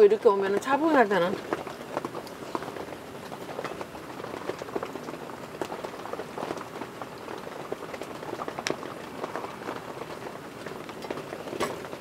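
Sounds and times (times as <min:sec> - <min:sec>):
rain pattering: 0:00.0 - 0:12.0
raindrops ticking close by: 0:00.0 - 0:12.0.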